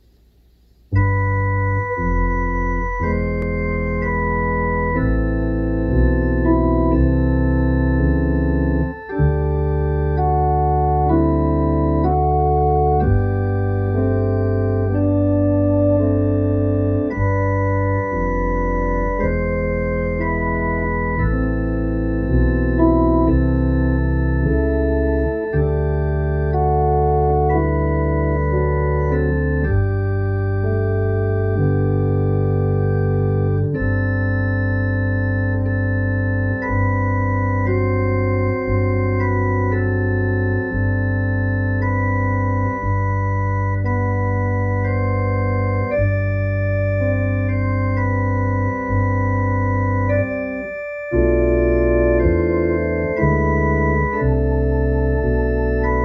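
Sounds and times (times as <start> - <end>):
organ playing a slow hymn: 0.9 - 56.0.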